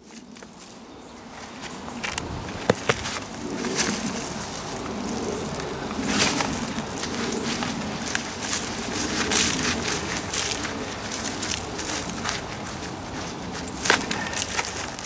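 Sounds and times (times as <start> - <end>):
tools scraping through soil: 1.3 - 15.0.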